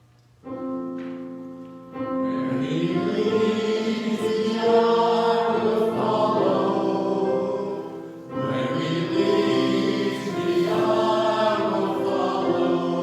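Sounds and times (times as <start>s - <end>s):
choir singing slowly: 1.2s - 13.0s.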